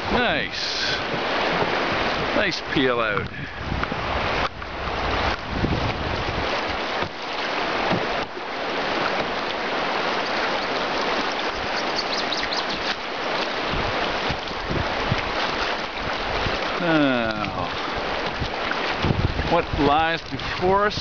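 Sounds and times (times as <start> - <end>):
river water rushing and splashing: 0.0 - 21.0
wind rumbling on microphone: 0.0 - 21.0.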